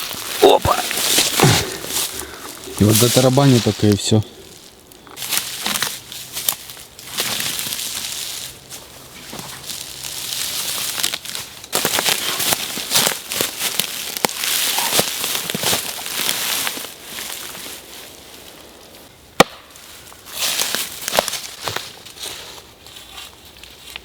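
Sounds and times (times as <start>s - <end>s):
dry wood and brush crackling: 0.0s - 24.0s.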